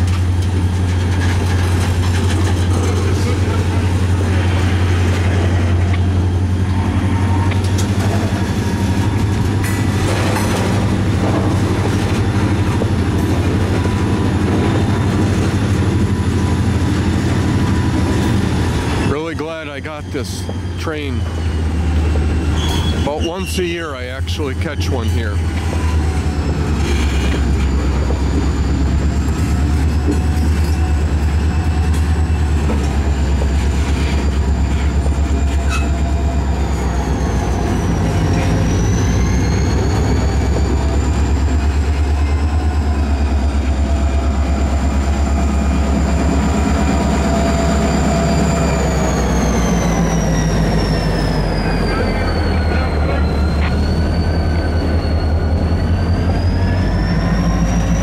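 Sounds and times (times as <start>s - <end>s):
diesel locomotive engine hum: 0.0s - 58.0s
freight cars rumbling on rails: 0.0s - 58.0s
steel wheels squealing: 0.5s - 58.0s.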